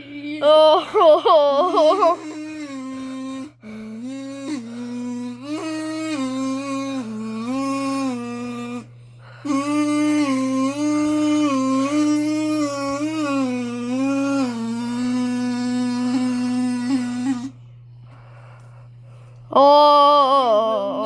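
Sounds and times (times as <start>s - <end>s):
person humming: 0.0s - 21.0s.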